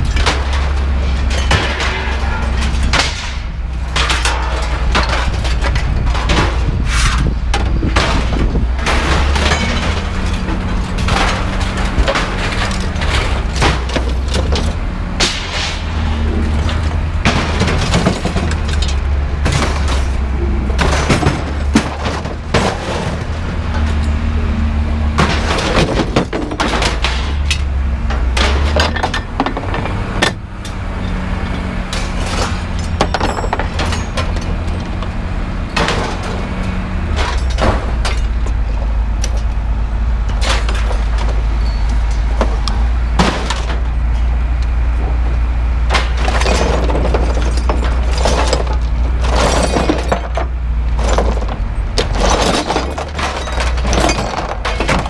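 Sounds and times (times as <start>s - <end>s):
low engine rumble: 0.0s - 55.0s
scrap metal clanging and crashing: 0.0s - 55.0s.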